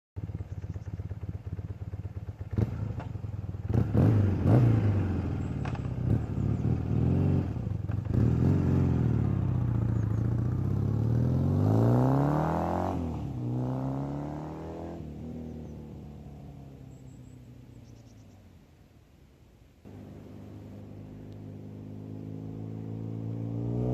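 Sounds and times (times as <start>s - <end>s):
motorcycle engine idling and revving: 0.2s - 23.9s.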